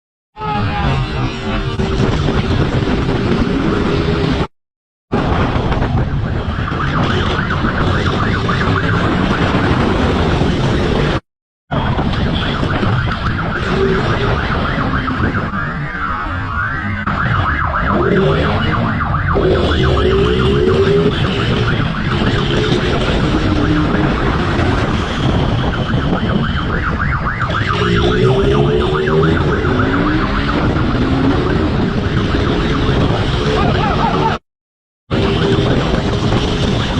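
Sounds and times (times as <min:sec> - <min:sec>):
emergency vehicle siren: 0:00.4 - 0:04.5, 0:05.1 - 0:34.4
road and wind noise: 0:00.4 - 0:04.5, 0:05.1 - 0:34.4, 0:35.1 - 0:36.9.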